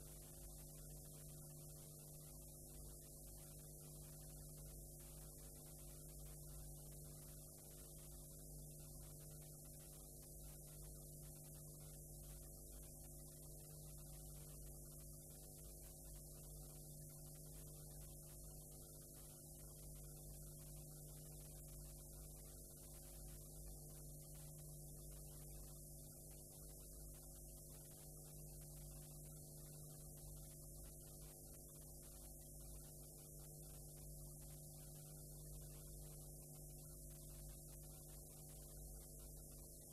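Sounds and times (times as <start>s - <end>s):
faint steady hum with tones: 0.0s - 39.9s.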